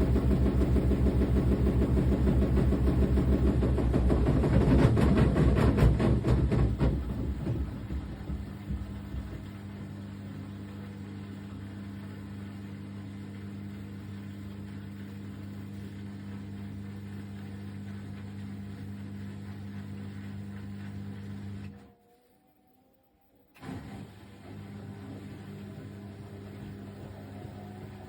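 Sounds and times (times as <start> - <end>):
motor hum: 0.0 - 22.7, 23.6 - 28.0.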